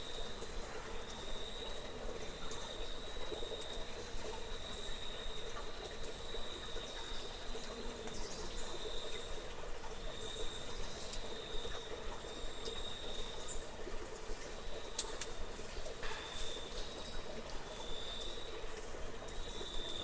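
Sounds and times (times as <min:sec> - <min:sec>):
faint ticks: 0:02.3 - 0:09.3, 0:10.2 - 0:20.0.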